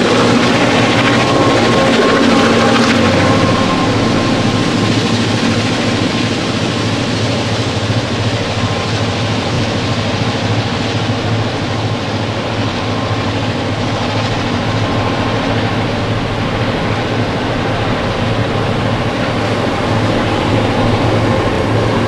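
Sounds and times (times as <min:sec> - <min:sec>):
low drone: 0:00.0 - 0:22.0
train wheels rumbling on track: 0:00.0 - 0:22.0.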